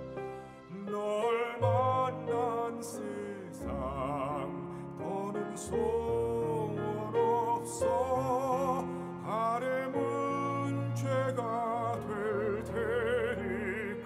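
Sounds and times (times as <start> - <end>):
baritone singing: 0.6 - 14.0.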